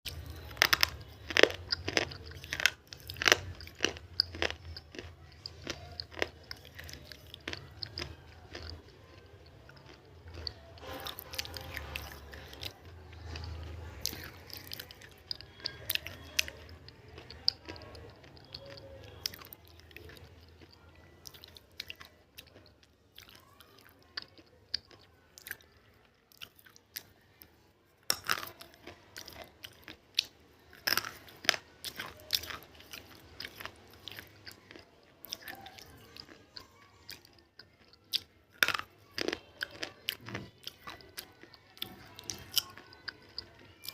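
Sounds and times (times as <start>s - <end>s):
crunchy food being chewed: 0.1s - 43.9s.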